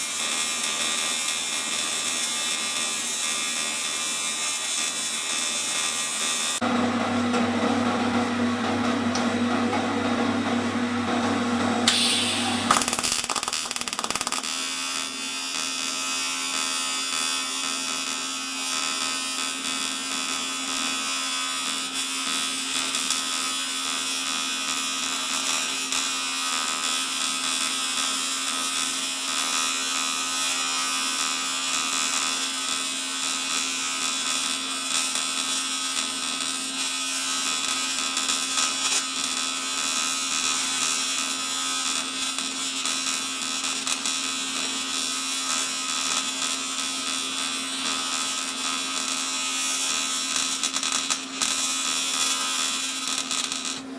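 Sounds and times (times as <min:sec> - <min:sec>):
welding arc buzzing: 0:00.0 - 0:06.6, 0:11.8 - 0:53.9.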